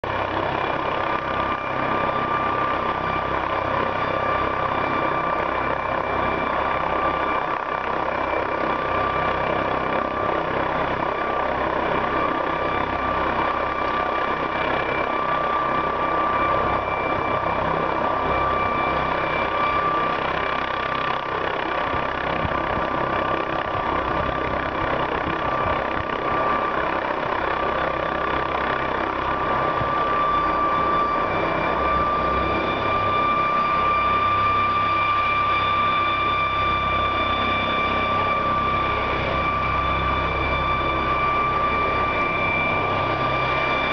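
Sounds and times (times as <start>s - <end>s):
helicopter engine rumble: 0.0s - 43.9s
helicopter turbine whine: 0.0s - 43.9s.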